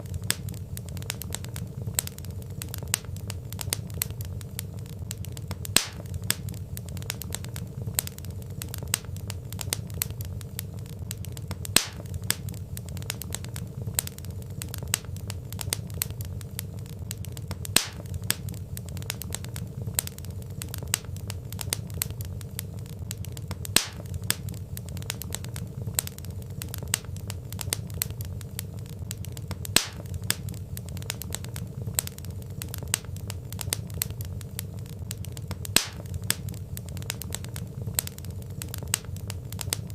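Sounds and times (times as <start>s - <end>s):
steady low rumble: 0.0s - 39.9s
wood fire crackling: 0.0s - 39.9s
loud pop from fire: 5.1s - 10.3s, 11.0s - 22.3s, 23.1s - 39.9s.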